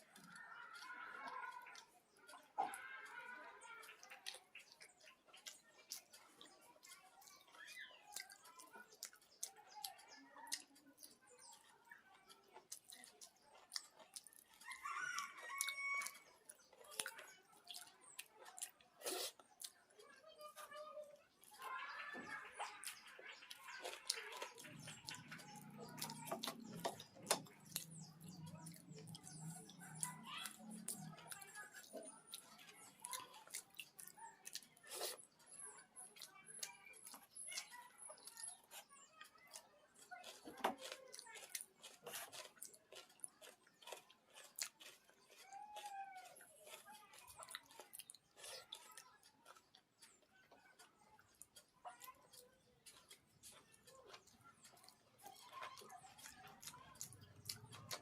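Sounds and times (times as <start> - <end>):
chewing with wet mouth clicks: 0.0 - 58.0.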